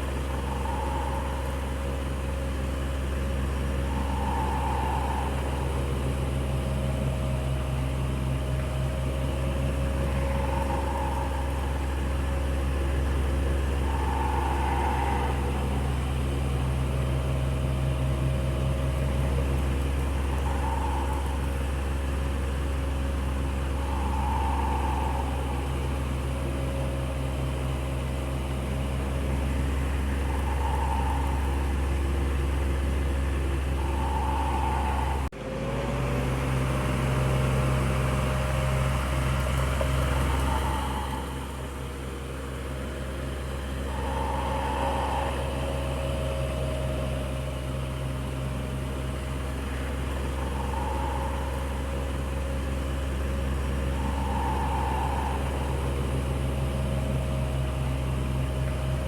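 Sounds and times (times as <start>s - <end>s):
electric fan motor hum: 0.0s - 35.2s, 43.2s - 59.0s
fan whine: 0.0s - 59.0s.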